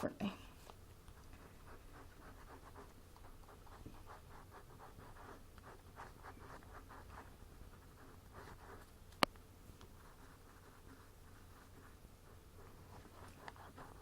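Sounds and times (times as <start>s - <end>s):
pen scratching on paper: 0.7s - 14.0s.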